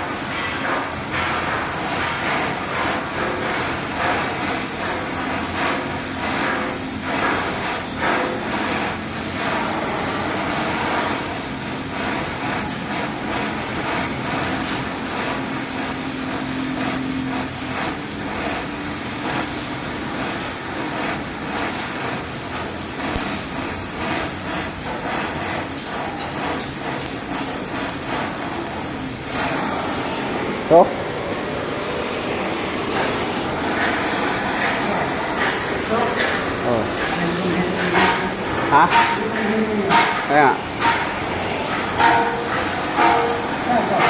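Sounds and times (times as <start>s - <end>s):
welding arc crackling: 0.0s - 44.0s.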